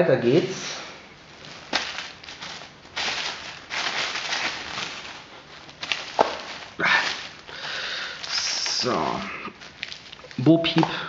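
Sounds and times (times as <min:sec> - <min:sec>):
plastic bag rustling and crinkling: 0:00.2 - 0:11.0.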